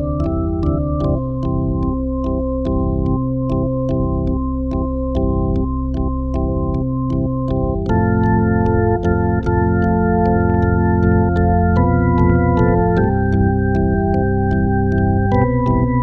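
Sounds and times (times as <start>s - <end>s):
held chords: 0.0s - 16.0s
steady ticking beat: 0.0s - 16.0s.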